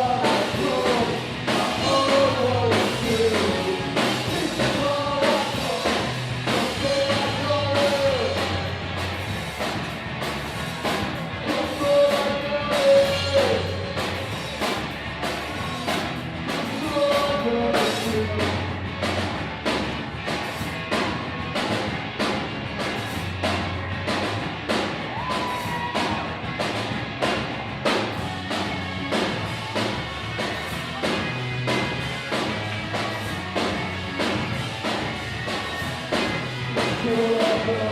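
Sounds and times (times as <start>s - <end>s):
drum kit beat: 0.0s - 37.9s
rock music with singer: 0.0s - 37.9s.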